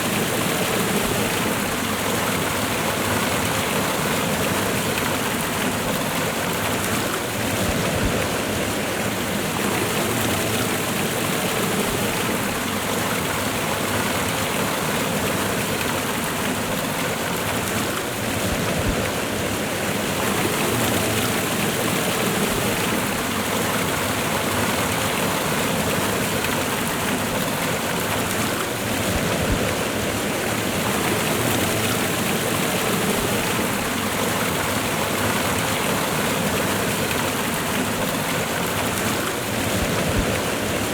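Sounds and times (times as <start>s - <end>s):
waterfall and river rushing: 0.0s - 40.9s.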